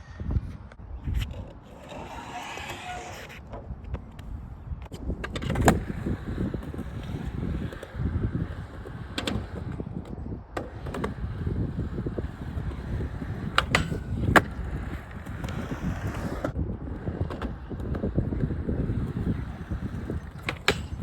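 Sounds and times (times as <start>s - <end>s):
skateboard wheels rolling: 0.4s - 21.0s
skateboard clacks: 1.2s - 21.0s.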